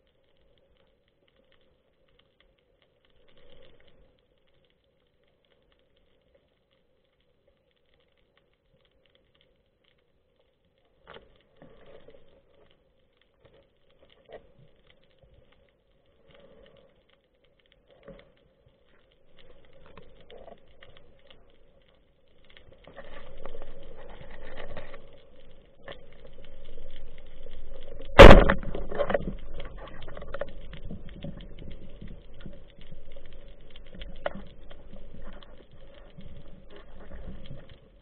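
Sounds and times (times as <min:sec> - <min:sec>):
faint underwater clicks and crackles: 0:00.0 - 0:38.0.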